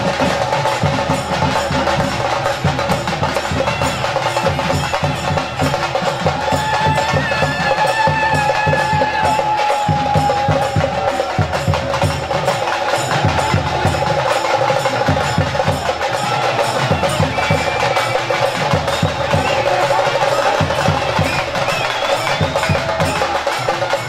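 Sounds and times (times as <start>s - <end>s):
clattering percussion: 0.0s - 24.0s
drums beating quickly: 0.0s - 24.0s.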